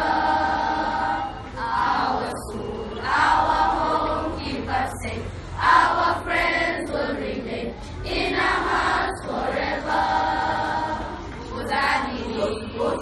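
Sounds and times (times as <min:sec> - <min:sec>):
girls choir singing: 0:00.0 - 0:13.0.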